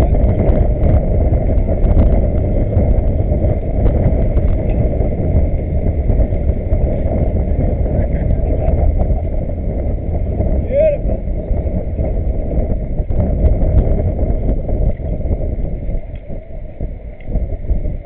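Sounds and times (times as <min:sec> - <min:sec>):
choppy water rushing past boat: 0:00.0 - 0:18.0
wind buffeting microphone: 0:00.0 - 0:18.0.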